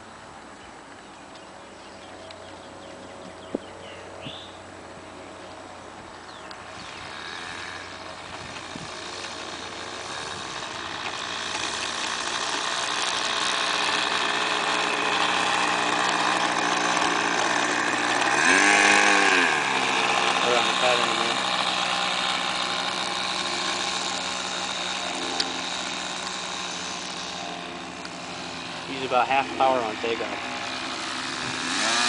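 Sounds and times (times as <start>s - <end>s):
model airplane engine idling: 1.8s - 32.0s.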